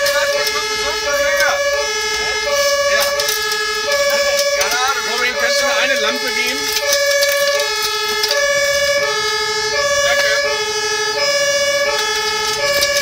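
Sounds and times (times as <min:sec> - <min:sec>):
truck engine and tyres rumbling: 0:00.0 - 0:13.0
two-tone fire engine siren: 0:00.0 - 0:13.0.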